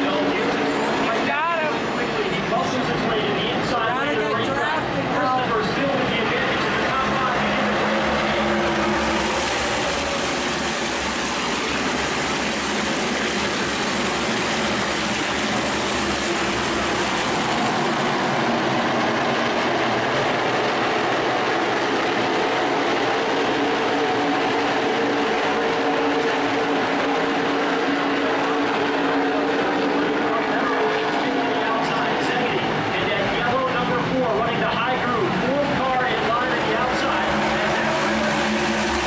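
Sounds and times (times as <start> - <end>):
race car engines droning: 0.0 - 39.0.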